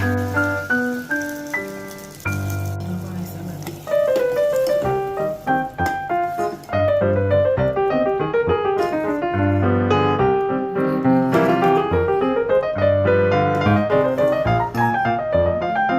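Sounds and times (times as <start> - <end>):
piano melody: 0.0 - 15.9.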